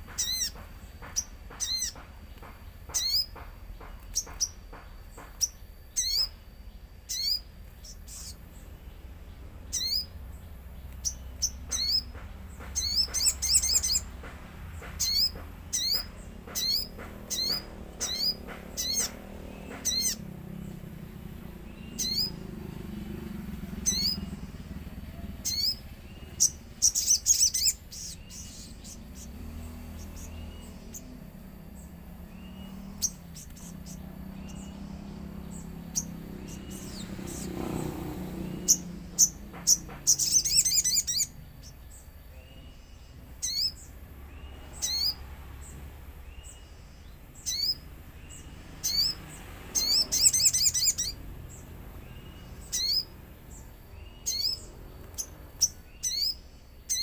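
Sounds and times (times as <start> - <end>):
bird sharp high chirps: 0.0 - 57.0.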